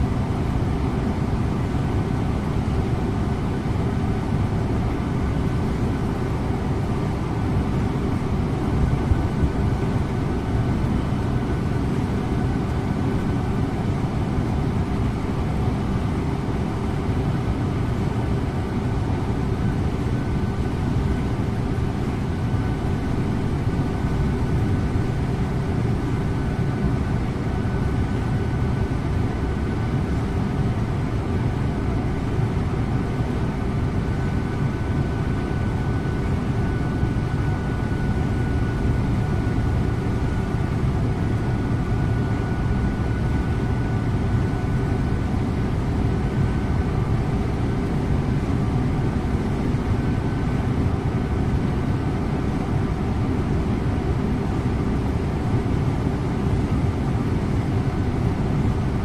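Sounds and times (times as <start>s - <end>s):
bus engine hum: 0.0s - 53.4s.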